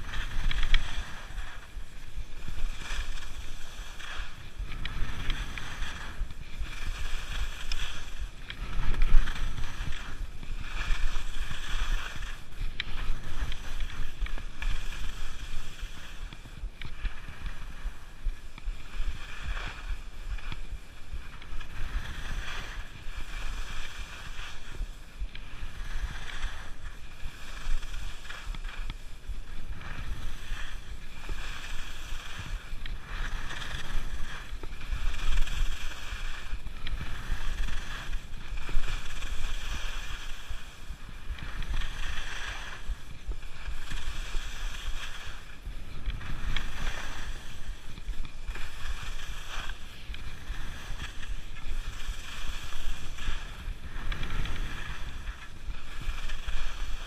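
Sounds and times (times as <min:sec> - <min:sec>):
skis scraping over snow: 0:00.0 - 0:57.0
wind rumbling on microphone: 0:00.0 - 0:57.0.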